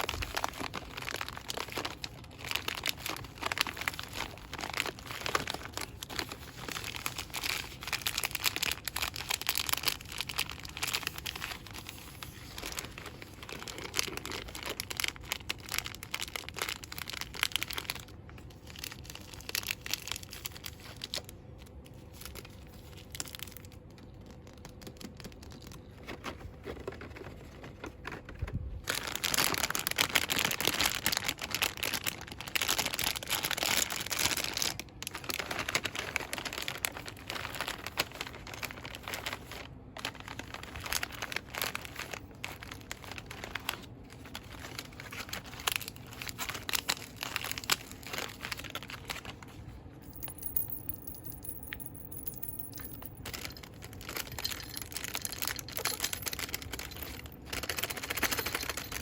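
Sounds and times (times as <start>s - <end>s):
packaging crinkling: 0.0s - 59.0s.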